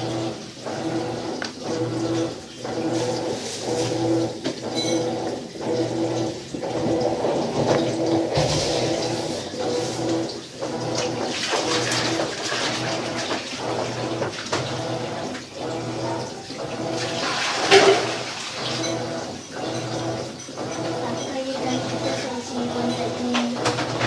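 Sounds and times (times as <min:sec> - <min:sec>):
washing machine motor hum: 0:00.0 - 0:24.0
washing machine water sloshing: 0:00.0 - 0:24.0.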